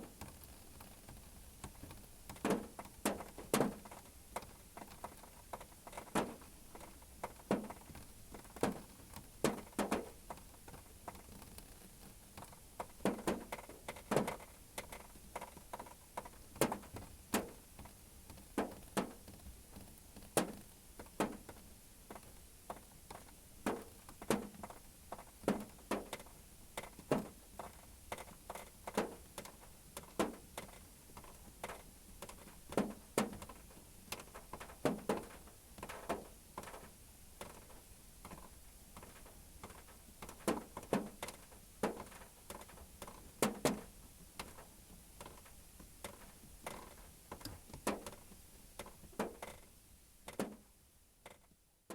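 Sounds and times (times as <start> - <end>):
faint steady hiss: 0.0 - 51.9
raindrops tapping on car roof: 0.1 - 49.7, 50.3 - 51.9.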